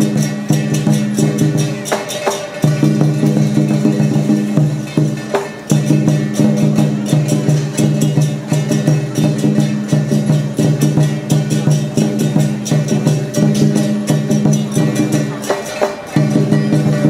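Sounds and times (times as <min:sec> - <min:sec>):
cymbals crashing: 0:00.0 - 0:17.0
drums: 0:00.0 - 0:17.0.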